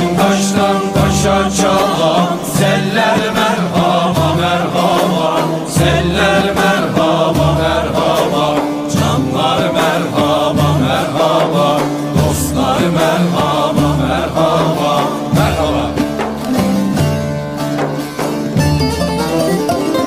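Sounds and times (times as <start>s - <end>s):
person singing folk song: 0.0s - 17.0s
instrumental accompaniment: 0.0s - 20.0s.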